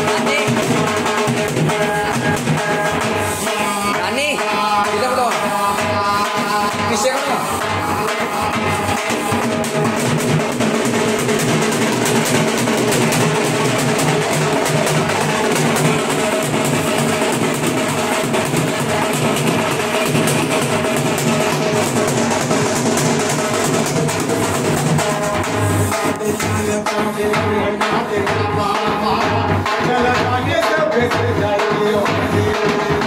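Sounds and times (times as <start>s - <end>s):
drums beaten with sticks: 0.0s - 33.0s.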